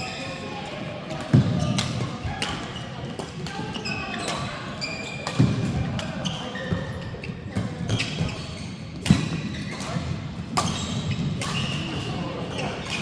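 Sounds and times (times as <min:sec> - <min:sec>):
shoes squeaking on court floor: 0:01.2 - 0:13.0.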